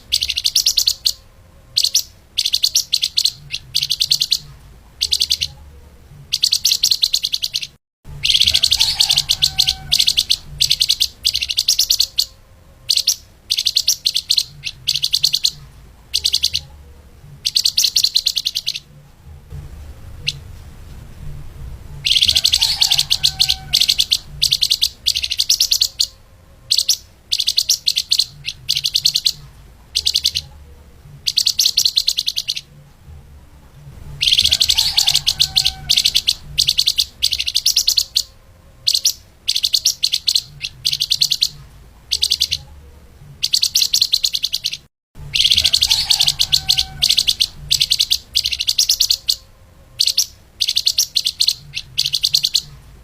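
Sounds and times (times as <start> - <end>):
songbird chirping song: 0.0 - 53.0.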